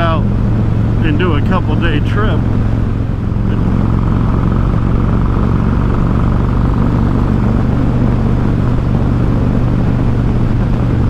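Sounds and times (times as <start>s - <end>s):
motorcycle engine running: 0.0s - 11.0s
riding wind noise: 0.0s - 11.0s.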